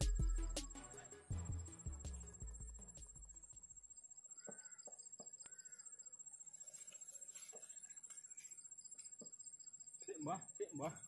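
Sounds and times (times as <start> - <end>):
faint lakeside ambience: 1.0 - 11.0
faint bird chirps: 1.8 - 11.0.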